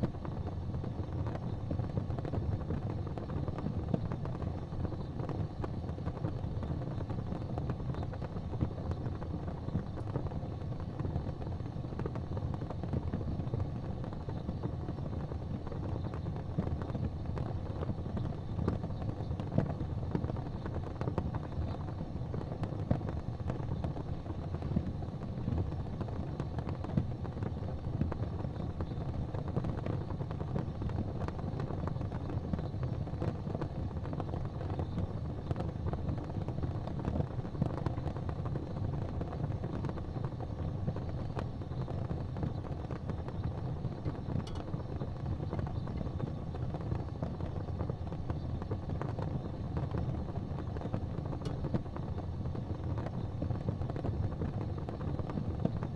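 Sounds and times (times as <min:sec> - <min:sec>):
fire crackling: 0:00.0 - 0:55.9
loud fire pops: 0:00.0 - 0:55.9
low rumble of flames: 0:00.0 - 0:55.9.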